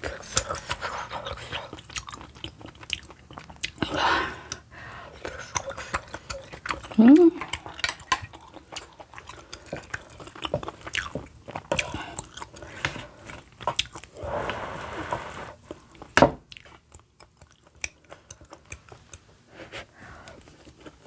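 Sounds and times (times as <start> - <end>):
wet chewing: 0.0 - 14.2, 15.5 - 19.4.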